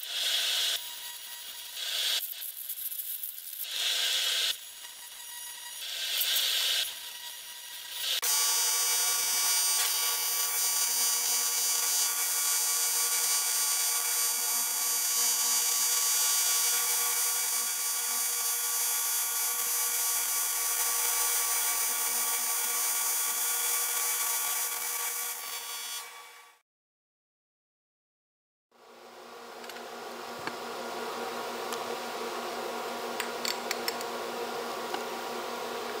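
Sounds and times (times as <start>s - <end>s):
welding arc buzzing: 0.0s - 26.6s, 29.5s - 36.0s.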